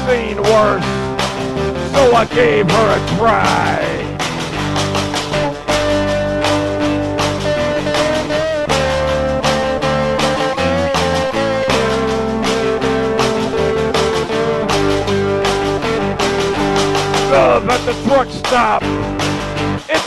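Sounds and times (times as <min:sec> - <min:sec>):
lead guitar bending long notes: 0:00.0 - 0:19.8
bass guitar: 0:00.0 - 0:19.9
drums keeping a steady beat: 0:00.0 - 0:20.0.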